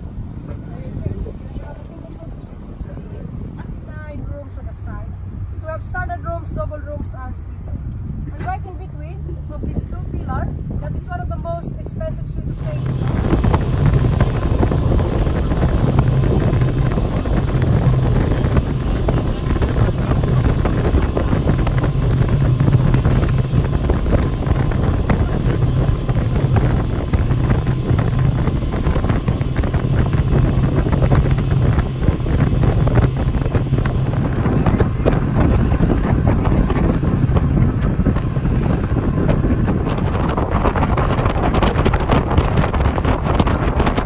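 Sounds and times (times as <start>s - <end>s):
low engine rumble: 0.0s - 44.0s
wind buffeting microphone: 0.0s - 44.0s.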